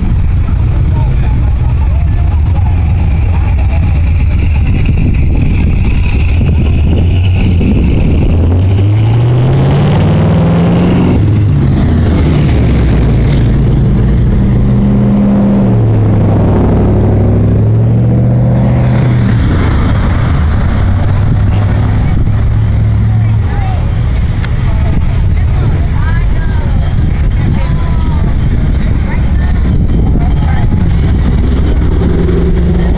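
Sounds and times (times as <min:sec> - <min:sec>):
car engine accelerating: 0:00.0 - 0:32.9
street noise: 0:00.0 - 0:32.9.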